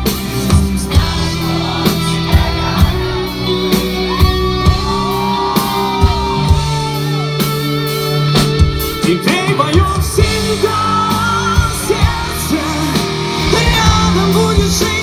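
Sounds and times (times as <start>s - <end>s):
pop-rock band music: 0.0s - 15.0s.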